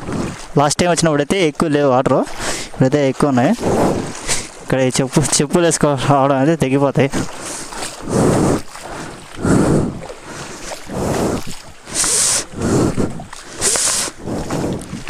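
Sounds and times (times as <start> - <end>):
footsteps splashing through stream: 0.0 - 15.0.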